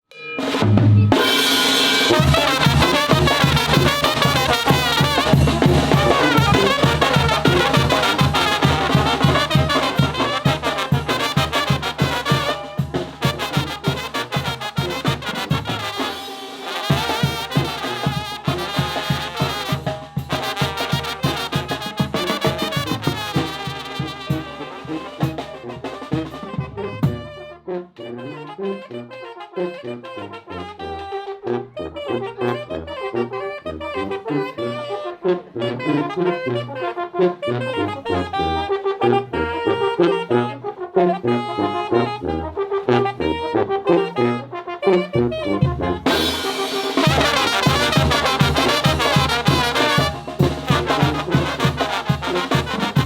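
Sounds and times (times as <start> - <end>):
trumpets and trombones playing: 0.3 - 53.0.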